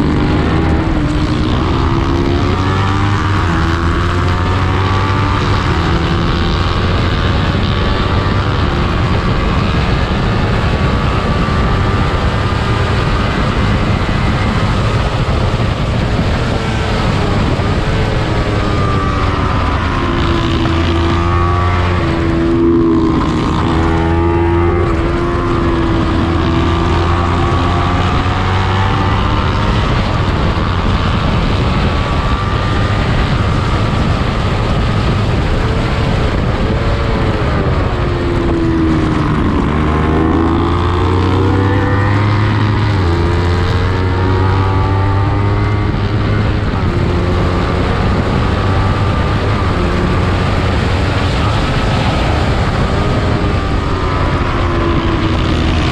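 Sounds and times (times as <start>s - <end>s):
motorcycle engine at high revs: 0.0s - 55.9s
steady rush of noise: 0.0s - 55.9s.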